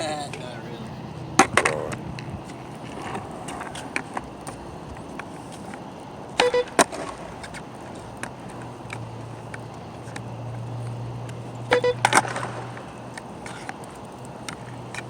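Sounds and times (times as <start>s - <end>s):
skateboard wheels rolling on pavement: 0.0s - 15.0s
skateboard clacks: 1.3s - 15.0s.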